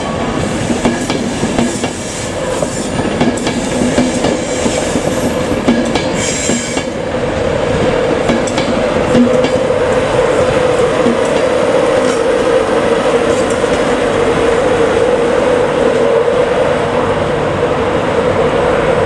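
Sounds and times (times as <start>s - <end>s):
electric locomotive hum: 0.0s - 19.0s.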